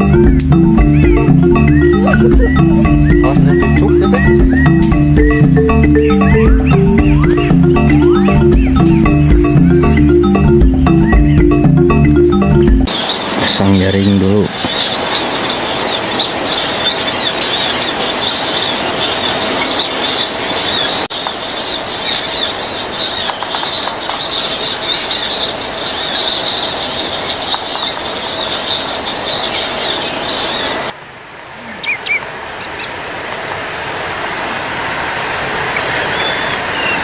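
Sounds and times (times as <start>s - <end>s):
small birds chirping: 0.0s - 31.0s, 31.6s - 37.0s
steady forest hiss: 0.0s - 37.0s.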